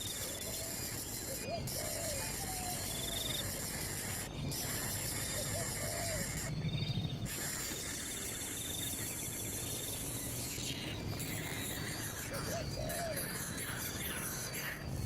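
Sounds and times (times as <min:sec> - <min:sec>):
insect hiss: 0:00.0 - 0:15.0.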